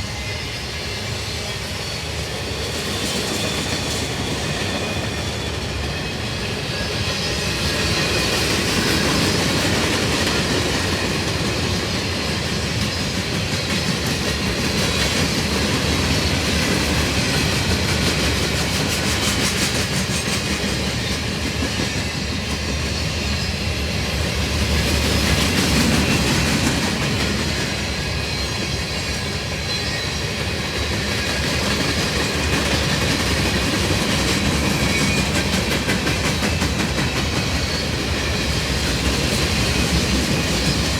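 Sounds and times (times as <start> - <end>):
freight train cars rolling past: 0.0 - 40.9.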